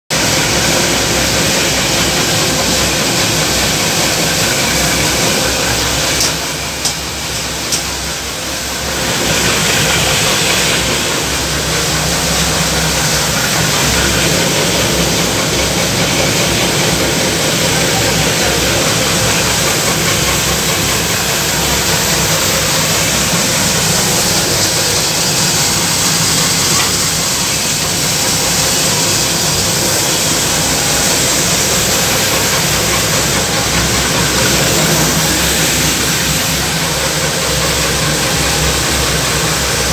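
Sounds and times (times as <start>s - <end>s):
asphalt plant mechanical din: 0.2s - 39.9s.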